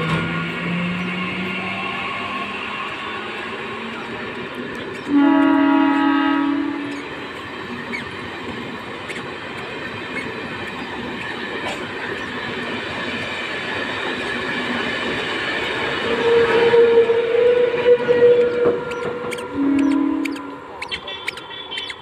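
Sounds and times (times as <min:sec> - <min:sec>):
electric train rolling past: 0:00.0 - 0:22.0.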